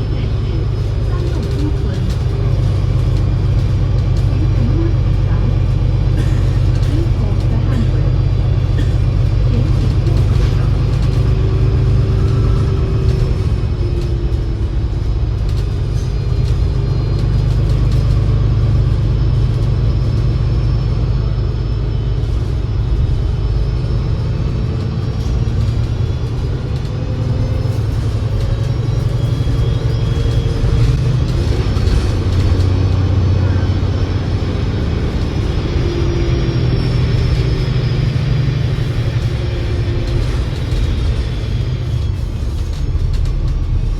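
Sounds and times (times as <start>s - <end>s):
bus engine rumble: 0.0s - 43.9s
gearbox whine: 0.0s - 43.9s.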